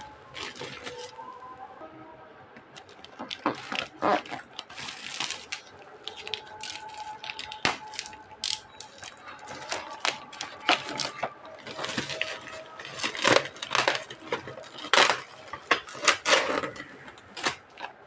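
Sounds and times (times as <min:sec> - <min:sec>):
packaging crinkling: 0:00.0 - 0:01.6, 0:02.8 - 0:18.0.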